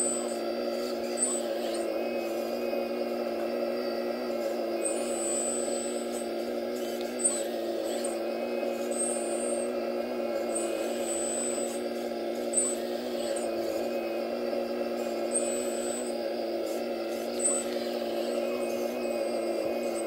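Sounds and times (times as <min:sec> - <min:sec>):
faint high whine: 0:00.0 - 0:20.0
model excavator mechanical hum: 0:00.0 - 0:20.0.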